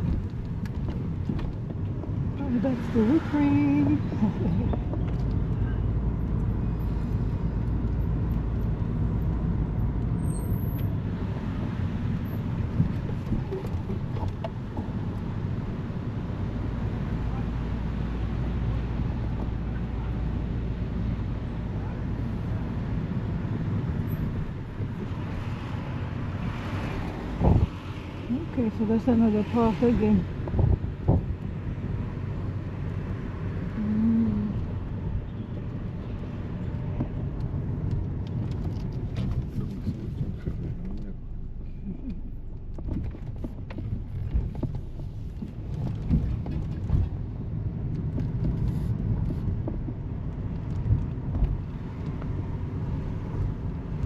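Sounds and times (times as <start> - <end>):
car road rumble: 0.0 - 54.0.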